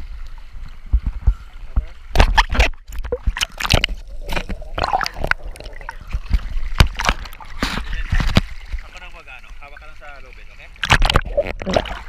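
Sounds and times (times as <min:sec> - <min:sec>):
sea water splashing: 0:02.1 - 0:12.0.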